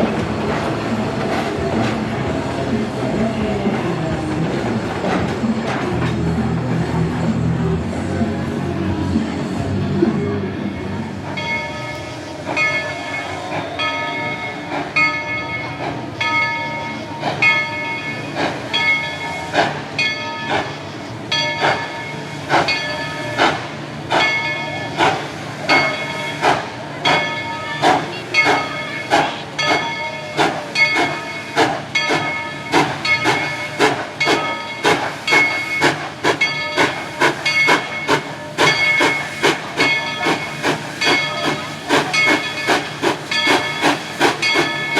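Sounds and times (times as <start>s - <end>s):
steam locomotive chuffing: 0.0s - 44.9s
steam hissing: 8.6s - 44.9s.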